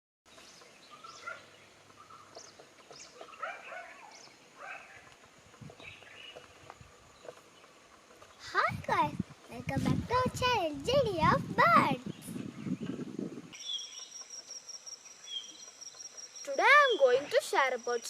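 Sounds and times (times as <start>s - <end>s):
birds chirping and calling: 0.3s - 18.0s.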